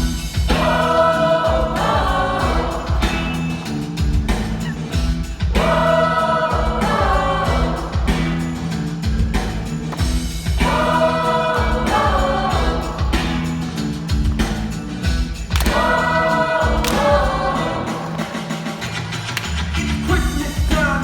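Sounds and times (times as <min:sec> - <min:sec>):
choir singing: 0:00.0 - 0:08.9, 0:10.3 - 0:21.0
backing track with steady beat: 0:00.0 - 0:21.0.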